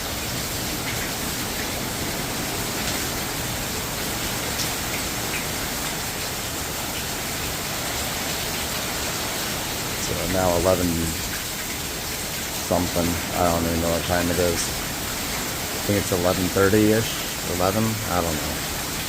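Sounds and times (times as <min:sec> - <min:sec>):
heavy rain hissing: 0:00.0 - 0:19.0
raindrop ticks: 0:00.2 - 0:01.8, 0:02.7 - 0:08.7, 0:09.8 - 0:19.0.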